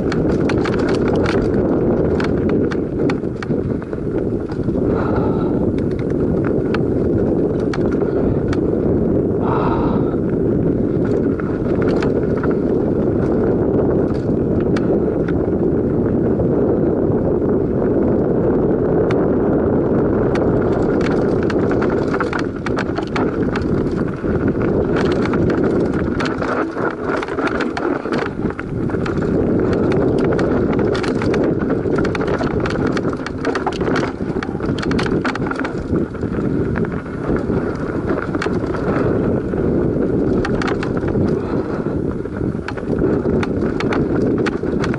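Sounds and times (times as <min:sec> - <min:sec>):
tyres rumbling on dirt: 0:00.0 - 0:16.8, 0:17.6 - 0:44.9
bike chain and frame rattling: 0:00.0 - 0:44.9.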